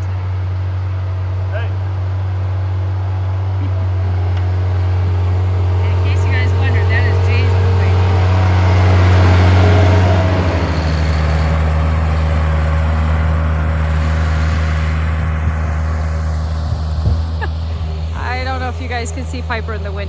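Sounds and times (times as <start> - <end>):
snow-clearing machine engine droning: 0.0 - 20.0.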